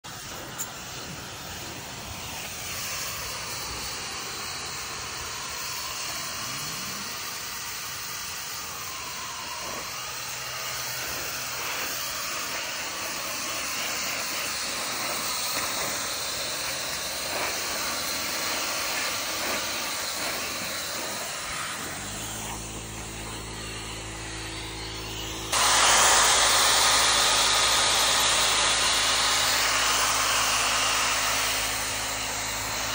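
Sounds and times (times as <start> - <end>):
pet dryer blowing air: 0.0 - 32.9.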